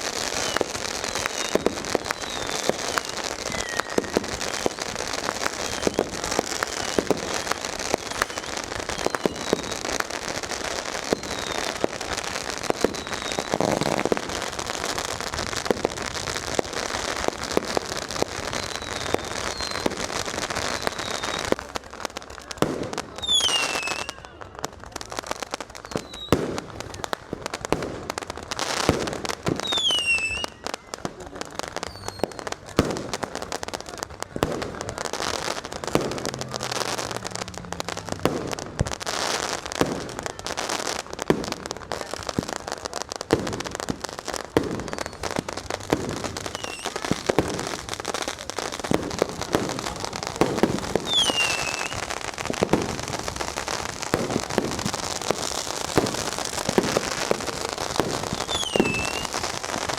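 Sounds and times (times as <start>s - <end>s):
firecrackers crackling: 0.0s - 59.9s
loud firework reports: 0.0s - 59.9s
whistling firework: 0.0s - 59.9s.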